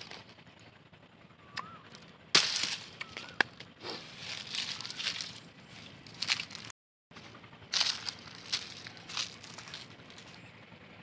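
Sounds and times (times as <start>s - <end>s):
dry grass and leaves rustling: 0.0s - 0.8s, 1.6s - 10.8s.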